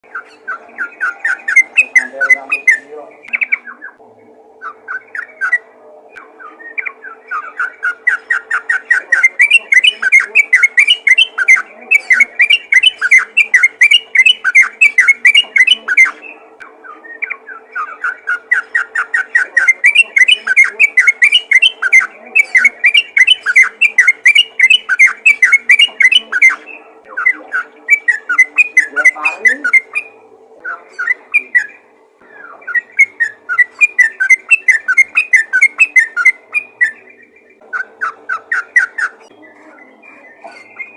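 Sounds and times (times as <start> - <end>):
bulbul singing rapid notes: 0.0 - 4.0, 4.6 - 40.9
faint steady hum: 0.0 - 40.9.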